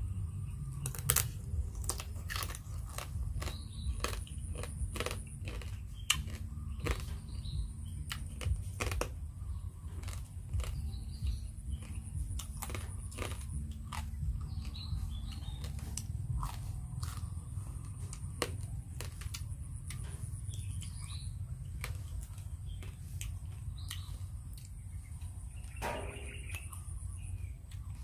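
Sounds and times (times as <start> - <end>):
low rumble: 0.0 - 28.0
person chewing crunchy food: 0.6 - 28.0.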